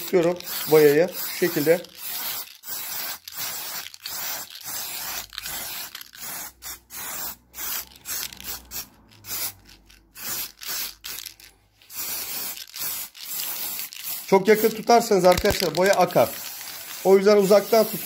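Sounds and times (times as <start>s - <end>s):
spray-paint can hissing bursts: 0.0s - 18.0s.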